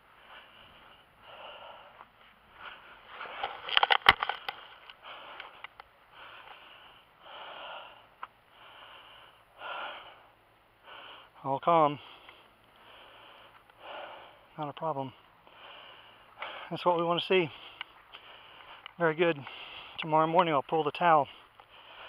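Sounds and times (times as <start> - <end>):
man breathing heavily: 0.0 - 22.0.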